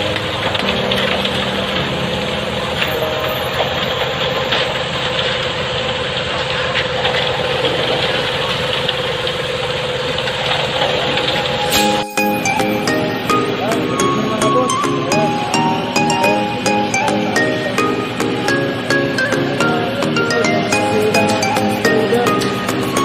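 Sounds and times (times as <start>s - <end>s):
paving machine engine running: 0.0s - 23.0s.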